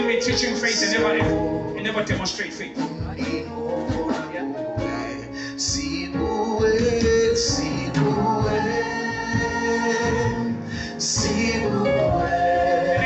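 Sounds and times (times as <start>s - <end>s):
soft band accompaniment: 0.0s - 13.0s
voices singing held notes: 0.0s - 13.0s.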